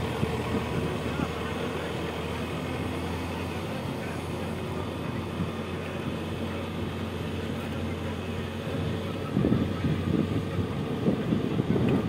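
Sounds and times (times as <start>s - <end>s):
diesel engine running: 0.0s - 12.0s
rough rumble: 0.0s - 12.0s.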